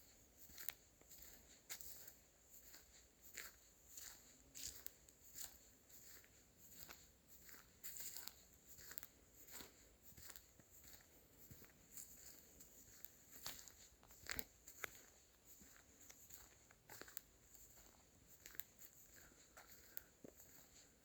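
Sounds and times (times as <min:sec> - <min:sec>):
footsteps crunching on dry leaves: 0:00.4 - 0:21.0.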